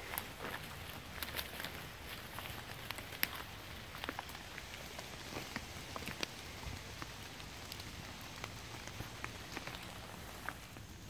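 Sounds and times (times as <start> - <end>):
raindrops tapping on wet leaves: 0.0 - 11.0
soft steady rain hiss: 0.0 - 11.0.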